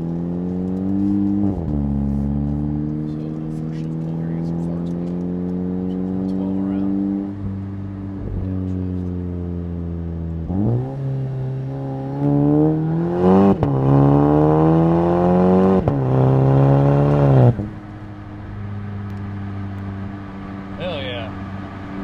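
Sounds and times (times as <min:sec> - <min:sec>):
car engine full-throttle pull: 0:00.0 - 0:22.0.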